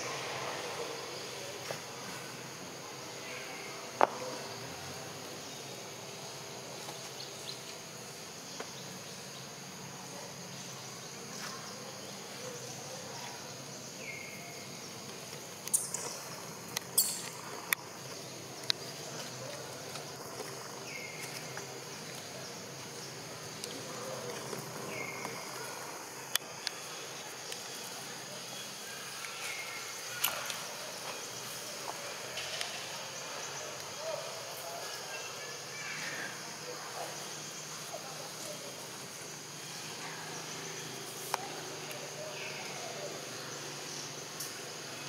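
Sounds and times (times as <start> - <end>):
forest insects chorus: 0.0 - 45.0.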